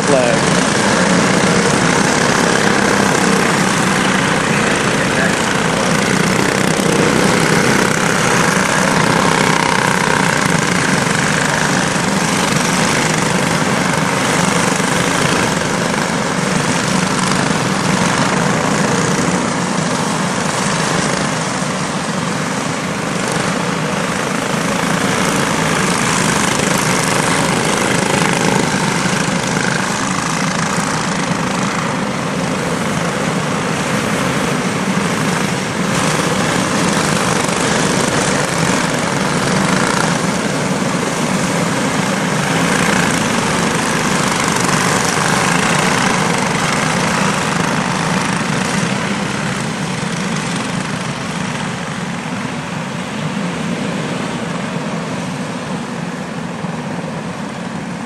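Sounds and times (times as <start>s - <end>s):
small race car engines droning: 0.0s - 58.0s.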